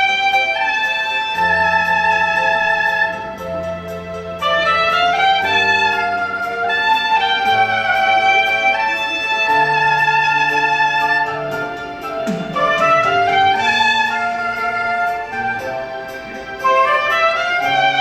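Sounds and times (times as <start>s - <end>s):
soprano saxophone melody: 0.0s - 18.0s
sustained low accompaniment: 0.0s - 18.0s.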